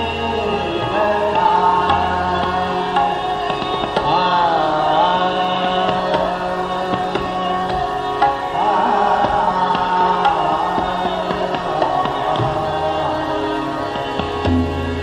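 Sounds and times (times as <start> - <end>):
steady drone: 0.0 - 15.0
tabla: 0.0 - 15.0.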